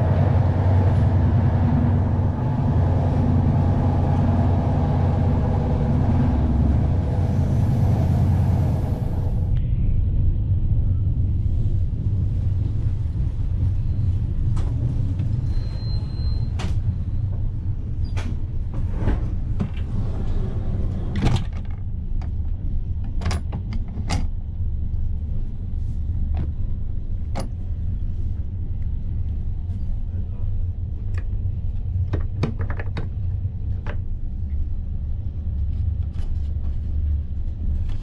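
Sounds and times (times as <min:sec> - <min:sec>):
train coach rumbling on rails: 0:00.0 - 0:38.0.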